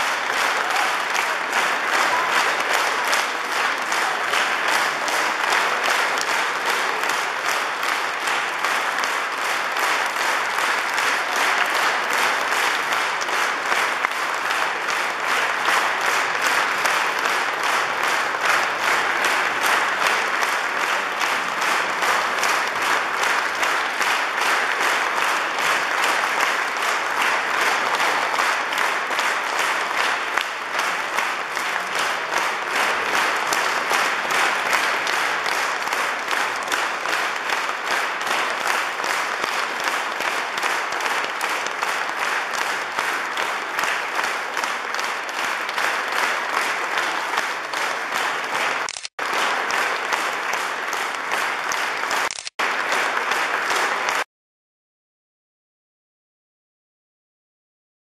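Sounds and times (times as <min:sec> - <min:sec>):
audience applauding: 0:00.0 - 0:54.3.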